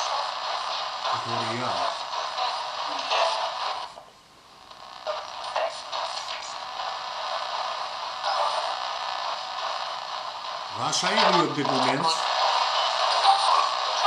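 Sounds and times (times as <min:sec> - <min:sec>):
broken radio fragments: 0:00.0 - 0:14.0
radio static bursts: 0:00.0 - 0:14.0.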